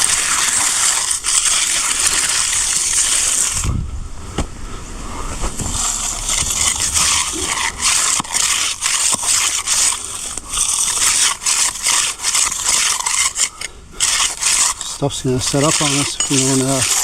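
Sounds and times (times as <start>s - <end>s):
hand tool scraping wet concrete: 0.0s - 3.7s, 5.3s - 17.0s.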